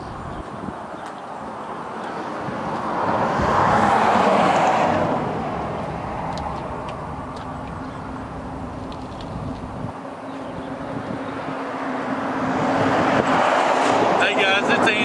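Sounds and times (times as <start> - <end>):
vehicle passing by: 1.4 - 15.0.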